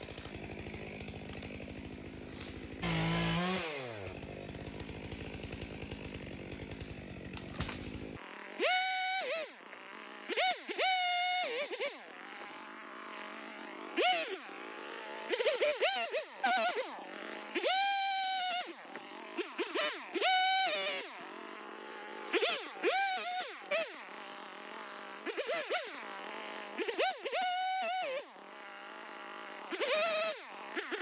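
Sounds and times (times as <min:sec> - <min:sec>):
chainsaw idling and revving: 0:00.0 - 0:31.0.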